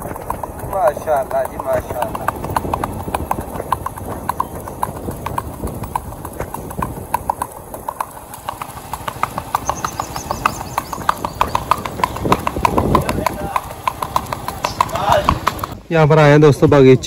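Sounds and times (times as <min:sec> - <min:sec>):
hooves clip-clopping on wet road: 0:00.0 - 0:15.8.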